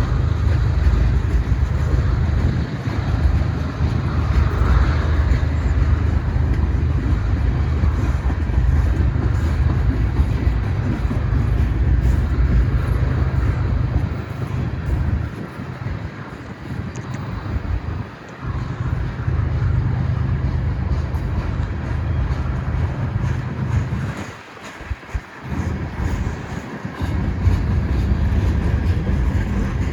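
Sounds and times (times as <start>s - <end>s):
freight train wheels rumbling: 0.0s - 29.9s.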